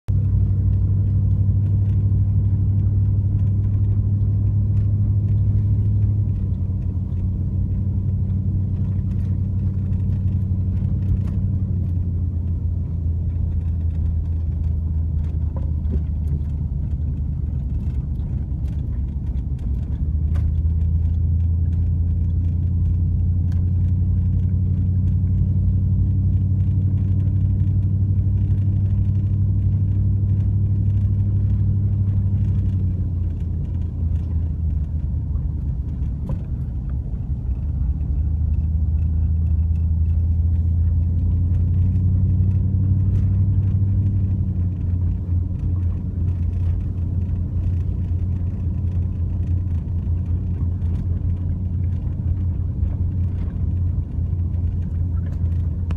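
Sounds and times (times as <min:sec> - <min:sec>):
car engine and tyre drone: 0:00.1 - 0:55.9.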